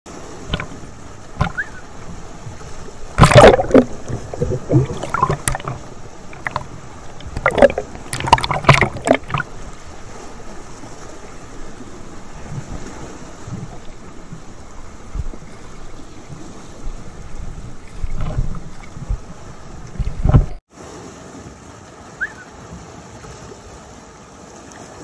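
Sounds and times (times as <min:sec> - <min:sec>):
small waves splashing: 0:00.1 - 0:25.0.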